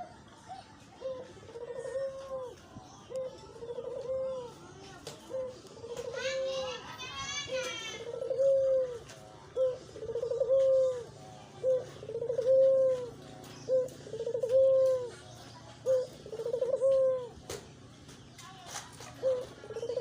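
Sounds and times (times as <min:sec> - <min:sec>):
dove cooing: 0:00.0 - 0:17.7, 0:19.0 - 0:20.0.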